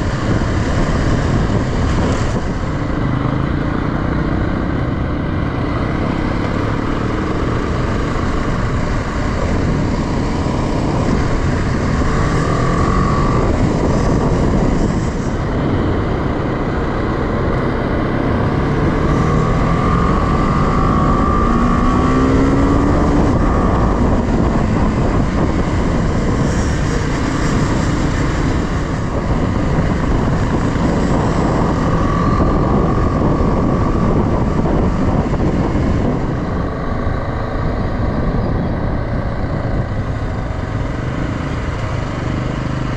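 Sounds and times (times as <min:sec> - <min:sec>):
motorcycle engine running: 0:00.0 - 0:42.9
rushing noise: 0:00.0 - 0:42.9.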